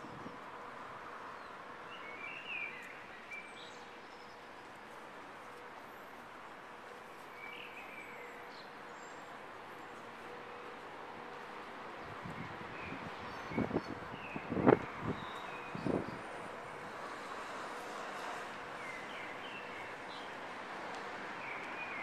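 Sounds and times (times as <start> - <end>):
faint city hum: 0.0 - 22.0.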